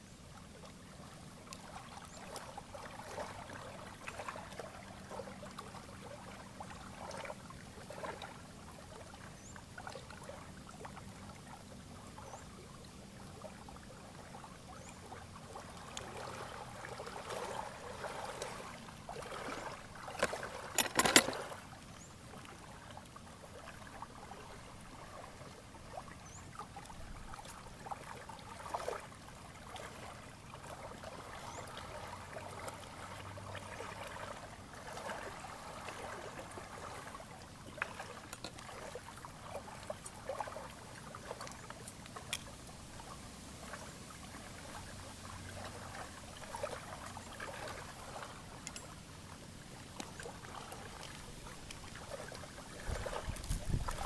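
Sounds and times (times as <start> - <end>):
lake waves lapping at shore: 0.3 - 54.0.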